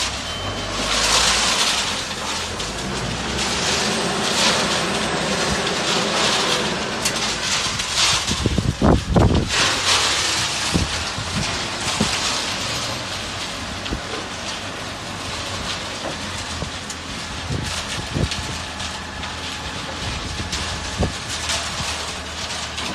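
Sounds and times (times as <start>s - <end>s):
concrete mixer engine running: 0.0s - 22.9s.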